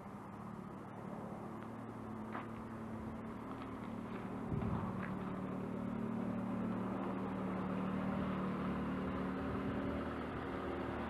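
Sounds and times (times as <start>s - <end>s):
pickup engine running: 0.0s - 11.0s.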